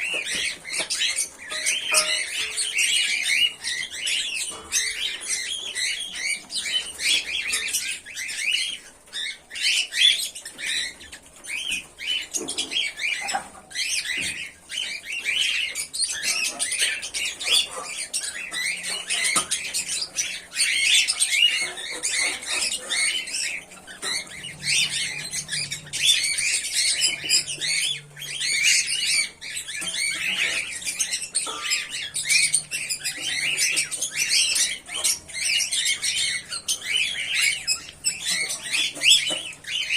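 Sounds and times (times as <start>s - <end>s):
cockatiels chirping and squawking: 0.0s - 39.9s.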